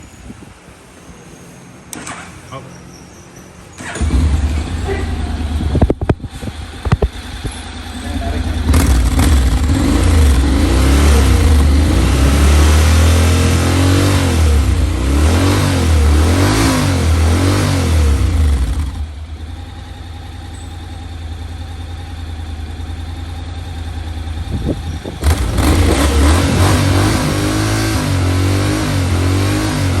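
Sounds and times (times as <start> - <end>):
motorcycle engine revving: 3.7 - 30.0.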